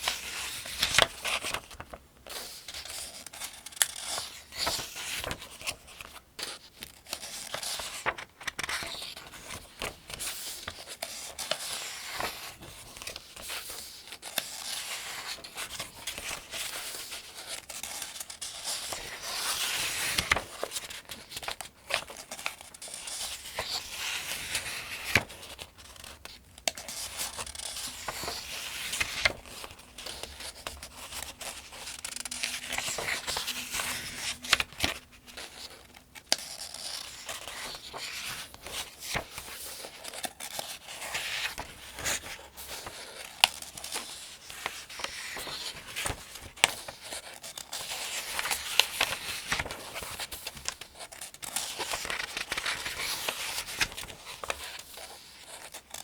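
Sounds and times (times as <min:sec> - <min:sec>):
pages being turned: 0:00.0 - 0:55.9.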